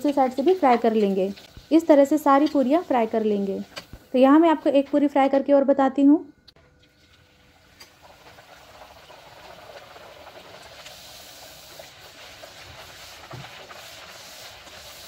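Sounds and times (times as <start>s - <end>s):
dough deep-frying in oil: 0.0s - 5.5s, 6.5s - 15.0s.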